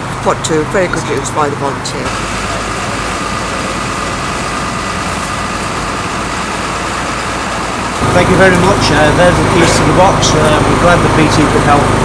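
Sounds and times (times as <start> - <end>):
thin steady whine: 0.0 - 12.0
vehicle engine idling: 0.0 - 12.0.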